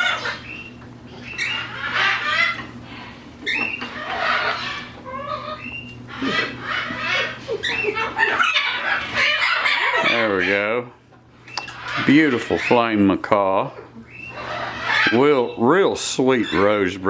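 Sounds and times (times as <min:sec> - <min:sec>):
parrots squawking: 0:00.0 - 0:17.0
steady low hum: 0:00.0 - 0:17.0.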